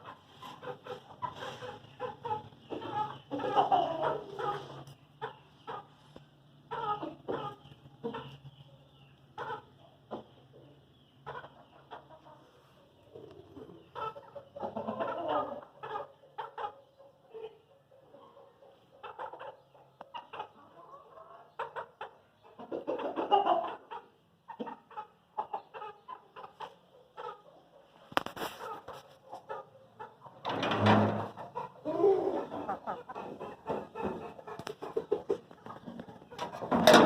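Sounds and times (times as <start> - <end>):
chicken clucking: 0.0 - 37.0.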